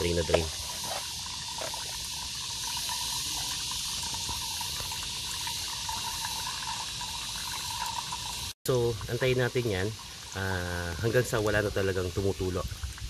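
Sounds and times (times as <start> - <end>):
coolant pouring from radiator: 0.0 - 13.0.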